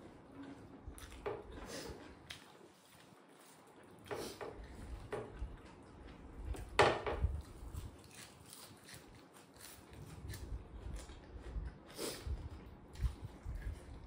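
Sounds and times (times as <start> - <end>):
chewing and mouth noises: 0.3 - 14.0.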